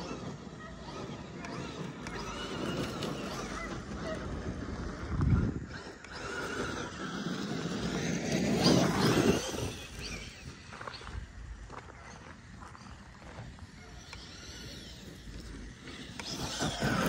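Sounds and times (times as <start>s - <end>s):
electric motor whining: 0.0s - 17.0s
tyres scrabbling on dirt: 0.0s - 17.0s.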